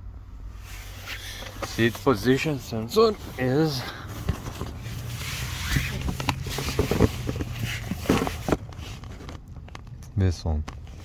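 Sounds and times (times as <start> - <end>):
rustling handling noise: 0.5 - 11.0.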